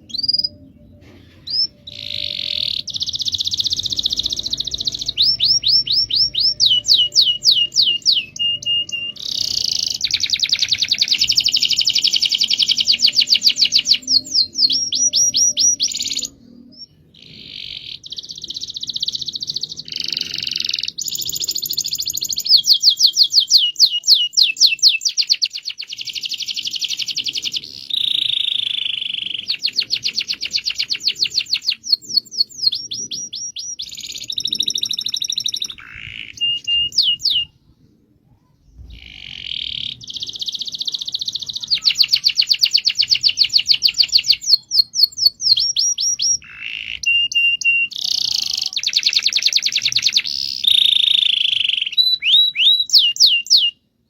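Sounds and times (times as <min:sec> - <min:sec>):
canary singing trills: 0:00.0 - 0:37.6, 0:38.4 - 0:53.9.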